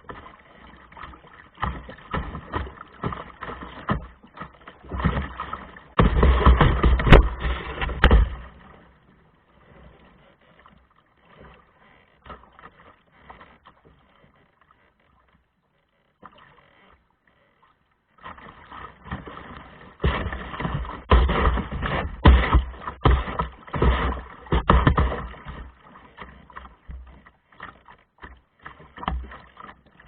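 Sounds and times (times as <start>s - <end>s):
water splashing around a canoe: 0.0s - 30.0s.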